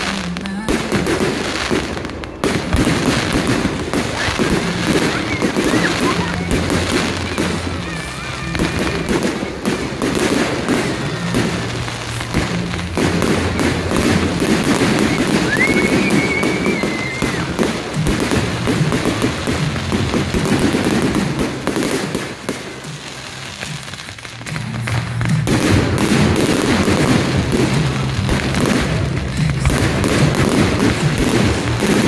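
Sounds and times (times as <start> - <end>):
crackling firework stars: 0.0 - 32.0
music: 0.0 - 32.0
whistling firework: 0.0 - 32.0.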